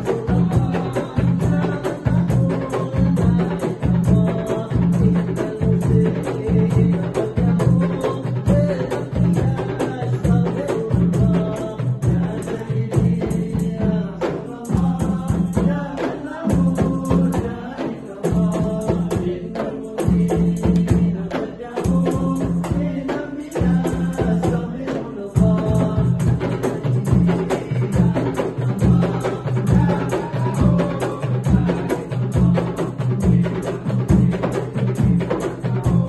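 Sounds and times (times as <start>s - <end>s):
hand-struck frame drums: 0.0s - 36.0s
large barrel drum: 0.0s - 36.0s
men chanting together: 0.0s - 36.0s.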